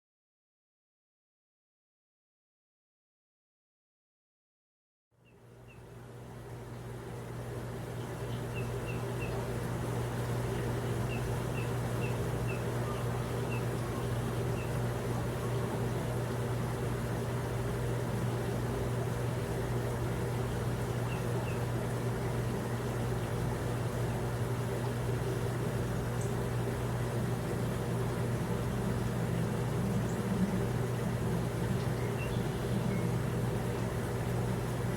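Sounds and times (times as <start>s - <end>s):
mechanical hum: 5.2s - 34.9s.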